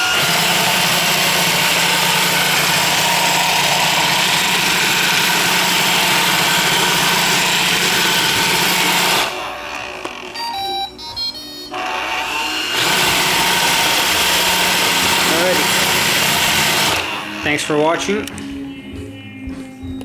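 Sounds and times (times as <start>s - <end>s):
robot vacuum running: 0.0s - 18.4s.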